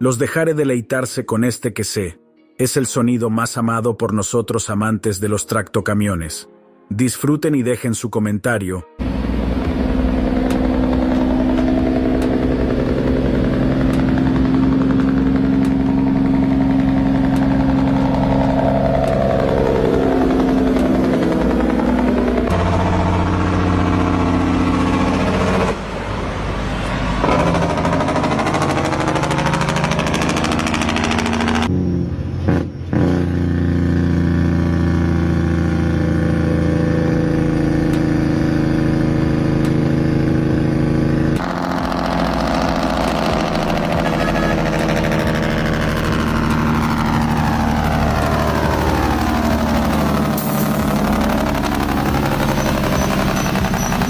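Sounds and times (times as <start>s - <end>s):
truck diesel engines revving: 9.0s - 54.0s.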